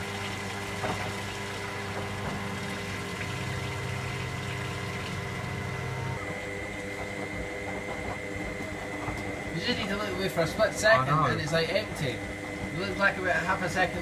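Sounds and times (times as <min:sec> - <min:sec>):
washing machine pump humming: 0:00.0 - 0:14.0
water moving through machine: 0:00.0 - 0:14.0.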